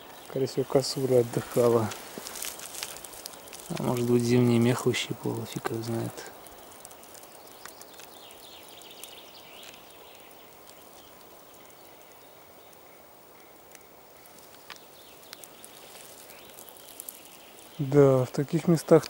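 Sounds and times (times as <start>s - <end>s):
twigs snapping: 0.0s - 12.8s, 13.7s - 19.0s
distant birds chirping: 0.0s - 19.0s.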